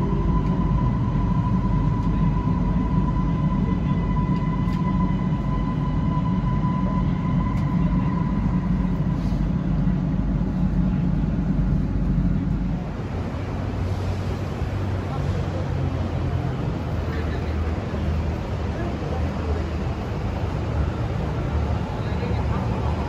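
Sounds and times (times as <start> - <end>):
train high whine: 0.0 - 23.0
train low rumble: 0.0 - 23.0.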